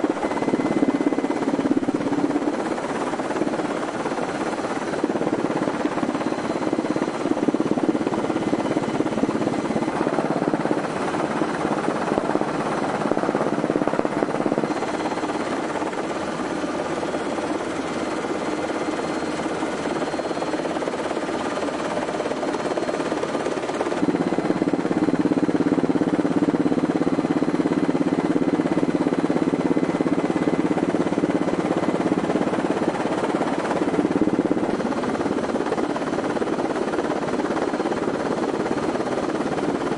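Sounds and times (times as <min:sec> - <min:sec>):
aircraft engines droning in cabin: 0:00.0 - 0:39.9
faint steady tones: 0:00.0 - 0:39.9.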